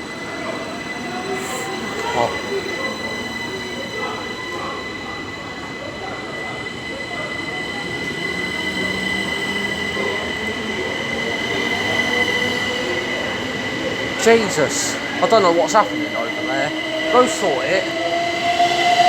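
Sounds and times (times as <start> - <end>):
electric train whine and rumble: 0.0 - 19.0.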